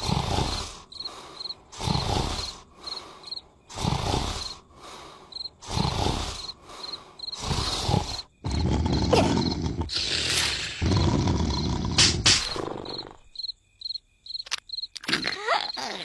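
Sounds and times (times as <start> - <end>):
cartoon character snoring: 0.0 - 13.3
crickets chirping: 0.0 - 16.0.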